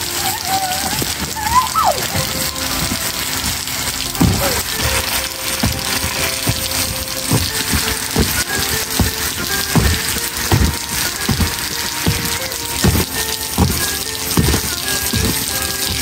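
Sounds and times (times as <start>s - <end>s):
background music: 0.0s - 16.0s
dull trampoline thumps: 0.0s - 16.0s
water spray hissing on mat: 0.0s - 16.0s.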